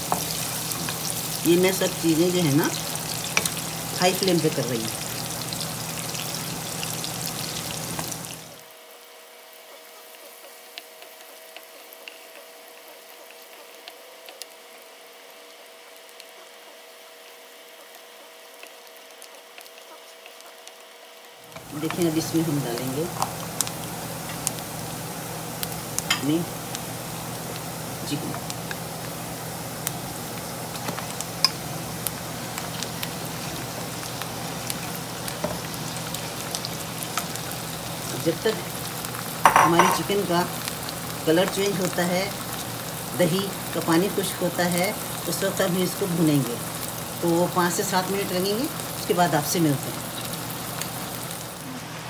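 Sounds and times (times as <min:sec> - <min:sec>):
onion sizzling in hot oil: 0:00.0 - 0:52.0.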